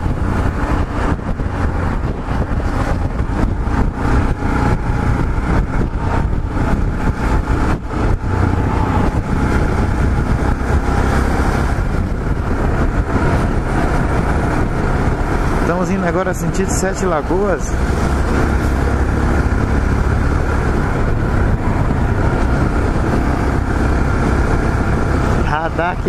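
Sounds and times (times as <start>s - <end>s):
motorcycle engine running: 0.0s - 26.0s
wind on microphone: 0.0s - 26.0s.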